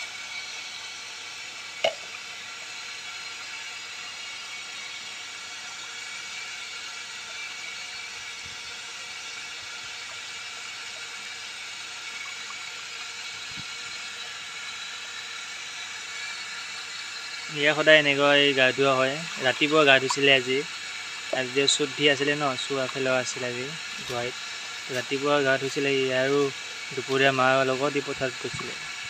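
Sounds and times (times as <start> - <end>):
running water hissing: 0.0 - 29.0.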